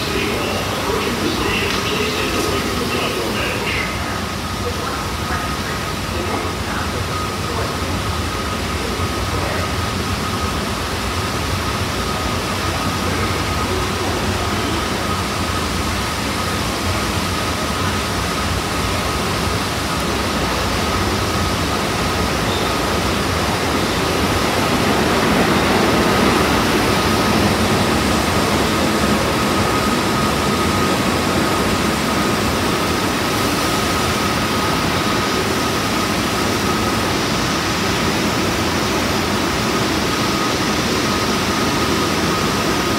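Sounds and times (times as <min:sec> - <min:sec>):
ventilation and equipment roar: 0:00.0 - 0:42.9.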